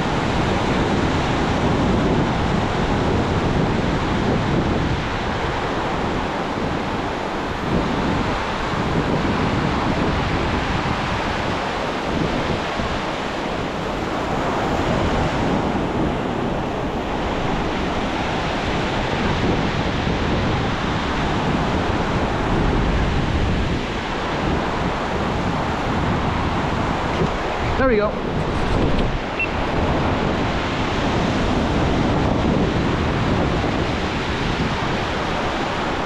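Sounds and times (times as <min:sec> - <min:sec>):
ocean surf washing onto beach: 0:00.0 - 0:36.0
wind buffeting microphone: 0:00.0 - 0:36.0.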